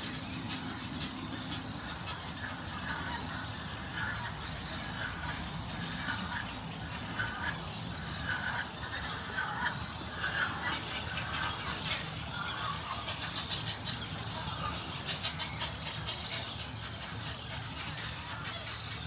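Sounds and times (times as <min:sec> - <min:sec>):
pulsing insect trill: 0:00.0 - 0:19.0.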